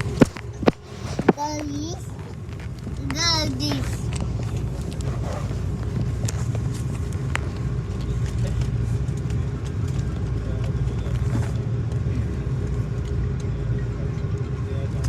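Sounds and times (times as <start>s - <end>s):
jet engines idling: 0.0s - 15.0s
steady hum: 0.0s - 15.0s.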